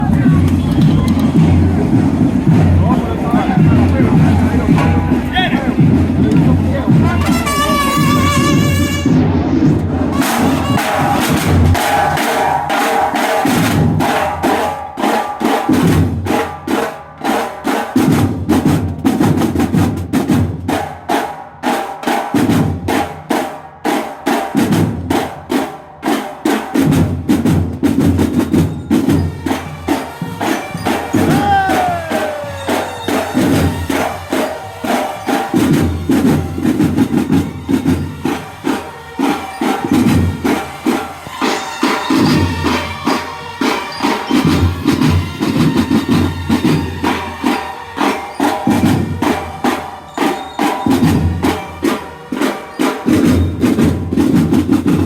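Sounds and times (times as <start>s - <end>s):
marching drums playing cadence: 0.0s - 55.0s.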